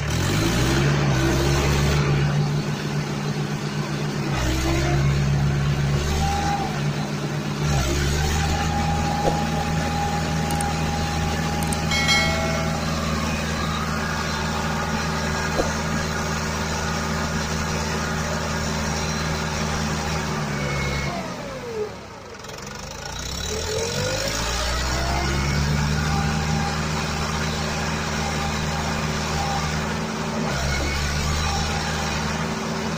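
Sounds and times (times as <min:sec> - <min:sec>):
tractor engine idling: 0:00.9 - 0:32.9.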